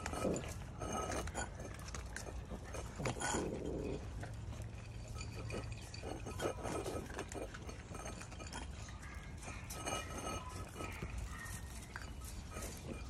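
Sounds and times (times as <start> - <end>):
puppies crunching kibble: 0.0 - 13.0
teeth clicking on bowls: 0.0 - 13.0.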